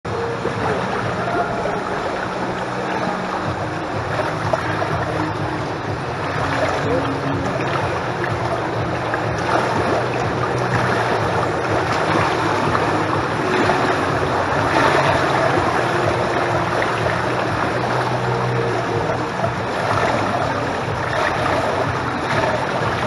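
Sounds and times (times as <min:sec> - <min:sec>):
pool water sloshing: 0:00.1 - 0:23.0
swimmer splashing: 0:00.1 - 0:23.0.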